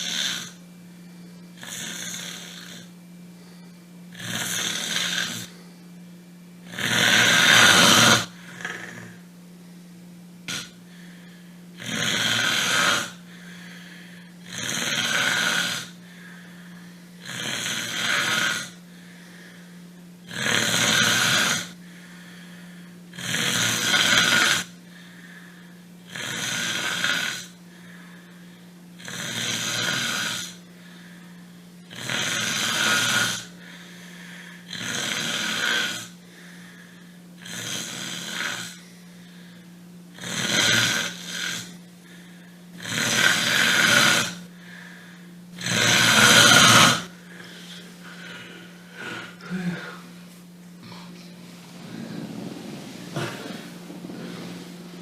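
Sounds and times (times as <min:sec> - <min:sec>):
person snoring: 0:00.0 - 0:00.6, 0:01.6 - 0:05.6, 0:06.6 - 0:09.2, 0:10.4 - 0:50.2, 0:50.8 - 0:55.0
steady low hum: 0:00.0 - 0:55.0.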